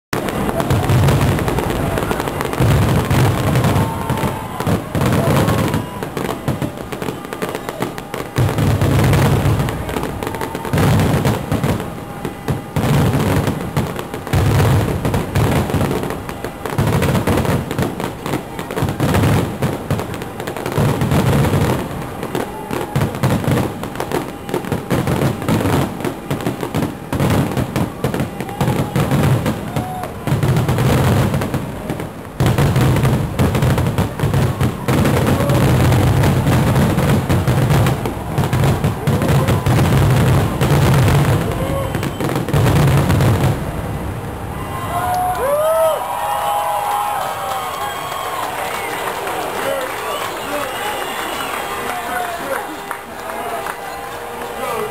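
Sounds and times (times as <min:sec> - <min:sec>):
deep fireworks booms: 0:00.1 - 0:49.5
fireworks crackling and bangs: 0:00.1 - 0:54.9.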